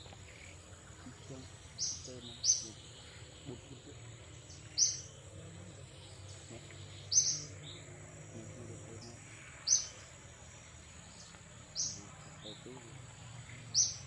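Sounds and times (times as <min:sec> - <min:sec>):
thin high insect drone: 0:00.0 - 0:14.0.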